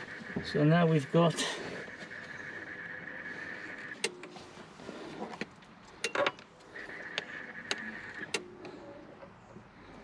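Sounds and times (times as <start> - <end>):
inverter high whine: 0.0 - 10.0.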